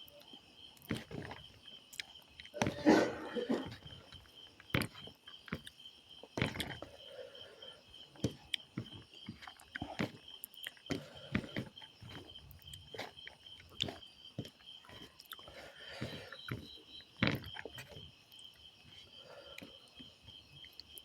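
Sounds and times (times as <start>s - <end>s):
insect trill: 0.0s - 21.0s
person chewing: 0.1s - 21.0s.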